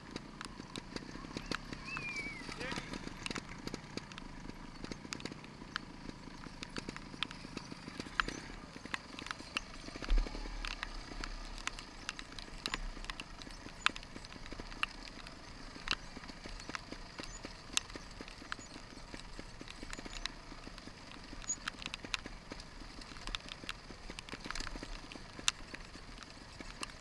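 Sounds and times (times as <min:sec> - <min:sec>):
motorcycle engine puttering: 0:00.0 - 0:27.0
raindrops ticking on camera: 0:00.0 - 0:27.0.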